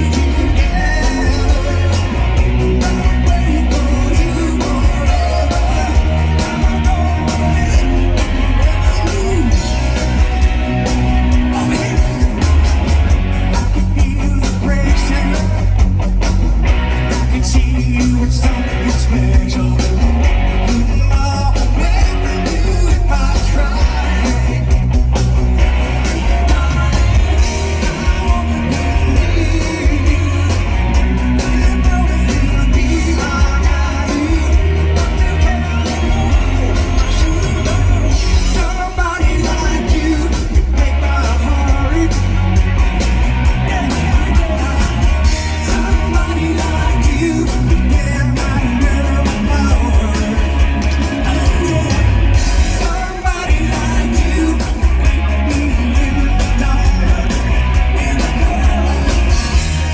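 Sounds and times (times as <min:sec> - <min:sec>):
person singing: 0:00.0 - 0:15.8, 0:16.8 - 0:59.9
live rock band playing: 0:00.0 - 0:59.9.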